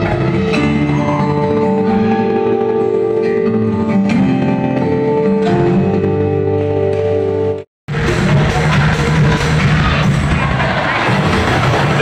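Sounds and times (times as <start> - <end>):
music with held notes: 0.0 - 10.8.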